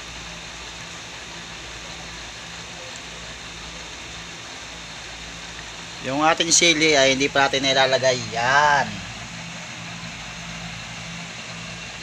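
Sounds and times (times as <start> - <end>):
pot boiling with hissing: 0.0 - 12.0.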